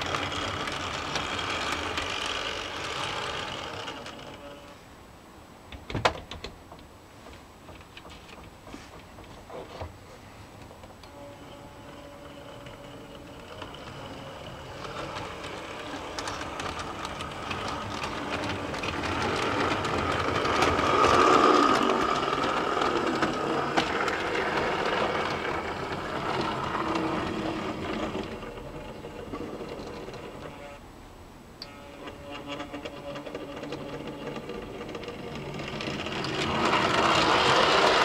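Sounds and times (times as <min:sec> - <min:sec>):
wheels clicking over rail joints: 0:00.0 - 0:04.6, 0:05.8 - 0:09.9, 0:10.6 - 0:30.7, 0:31.6 - 0:38.0
model train motor whir: 0:00.0 - 0:04.7, 0:11.1 - 0:30.6, 0:31.6 - 0:38.0.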